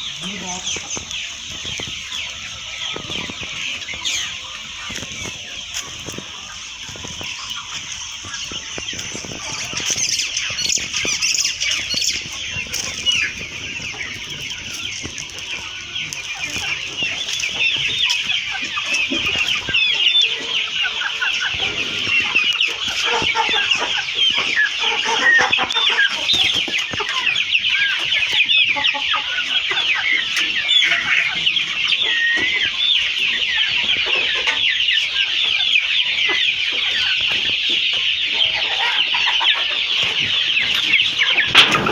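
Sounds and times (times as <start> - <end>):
chickens chirping in chorus: 0.0 - 41.9.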